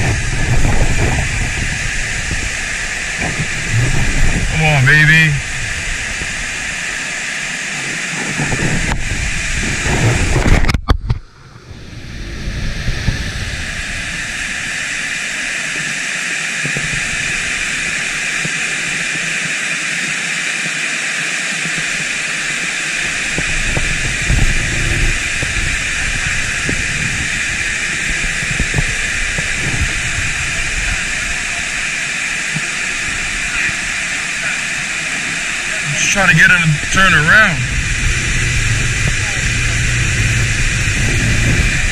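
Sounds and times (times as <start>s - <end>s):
wind rumble on microphone: 0.0s - 16.0s, 22.9s - 41.9s
water rushing over a spillway: 0.0s - 41.9s.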